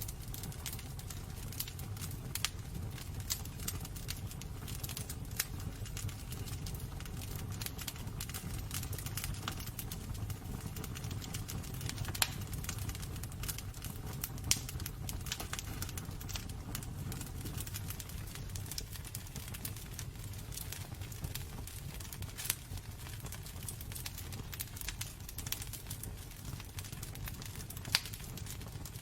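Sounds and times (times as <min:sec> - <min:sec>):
fire flames rumbling: 0:00.0 - 0:29.0
wood crackling and popping: 0:00.0 - 0:29.0.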